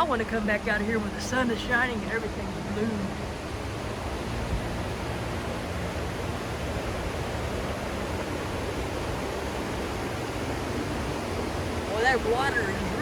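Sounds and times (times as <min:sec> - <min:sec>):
creek running high: 0:00.0 - 0:13.0
waterfall rushing: 0:00.0 - 0:13.0.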